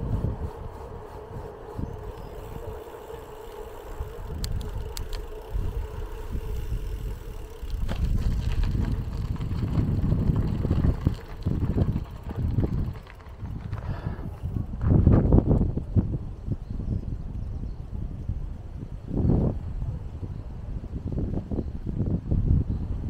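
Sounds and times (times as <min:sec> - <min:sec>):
bicycle tyres rumbling on pavement: 0:00.0 - 0:22.7
wind buffeting microphone: 0:00.0 - 0:23.0.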